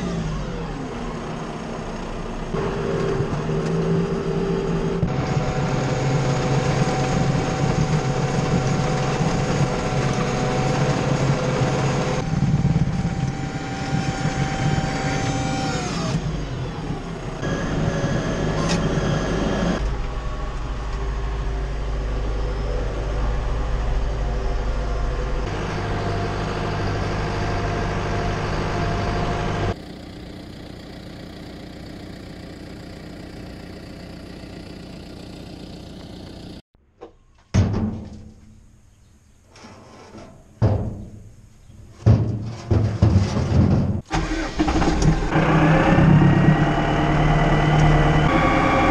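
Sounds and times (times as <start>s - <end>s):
tractor diesel engine under load: 0.0s - 36.6s, 42.0s - 48.9s.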